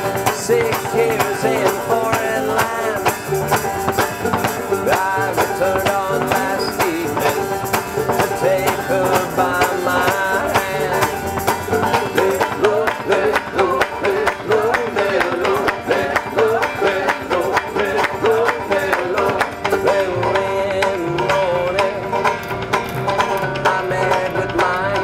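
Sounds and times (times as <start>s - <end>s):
wavering melody line: 0.0s - 22.2s
banjos picked rapidly: 0.0s - 25.0s
upright bass: 0.0s - 25.0s.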